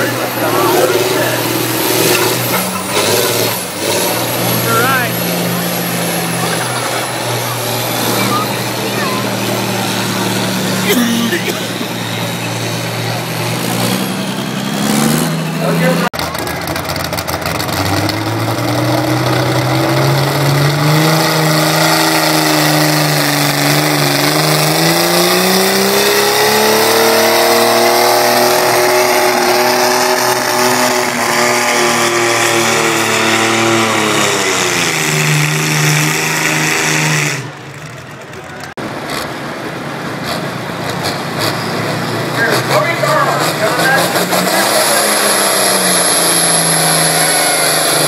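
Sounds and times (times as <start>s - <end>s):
tractor engine labouring: 0.0s - 48.0s.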